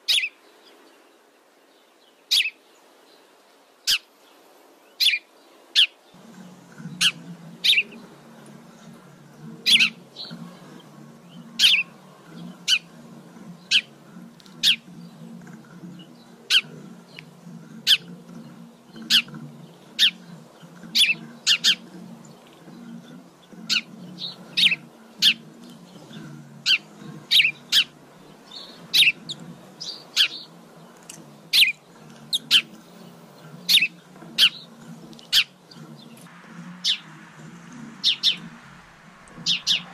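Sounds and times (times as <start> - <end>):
sparrows chirping: 0.0 - 1.1, 1.7 - 3.2, 3.8 - 39.9
steady low hum: 6.2 - 39.9.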